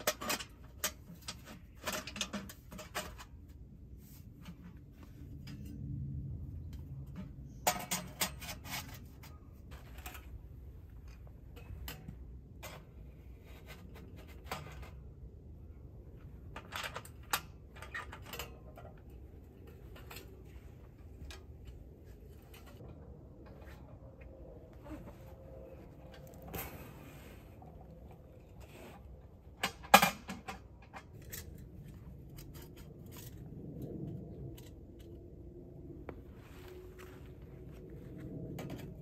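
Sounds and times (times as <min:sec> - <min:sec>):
metal clinks and scrapes: 0:00.0 - 0:15.2, 0:16.4 - 0:24.1, 0:24.8 - 0:35.2.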